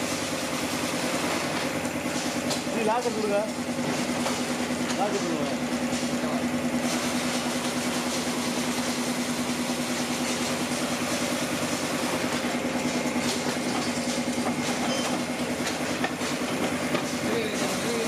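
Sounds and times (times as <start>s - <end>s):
machine humming and pulsing: 0.0s - 18.0s.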